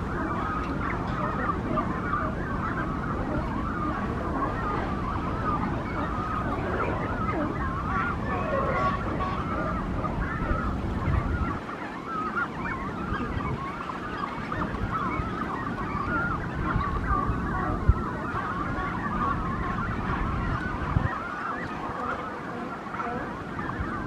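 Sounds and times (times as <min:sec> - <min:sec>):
cormorants honking chorus: 0:00.0 - 0:24.0.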